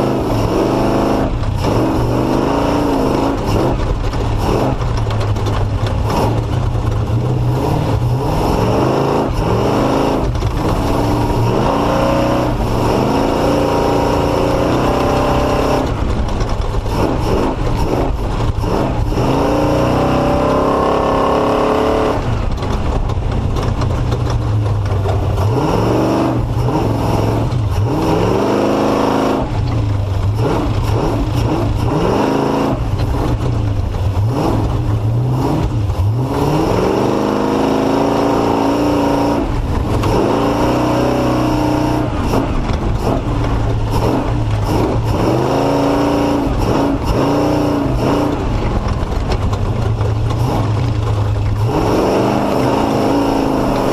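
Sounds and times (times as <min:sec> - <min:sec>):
off-road engine revving: 0:00.0 - 0:53.9.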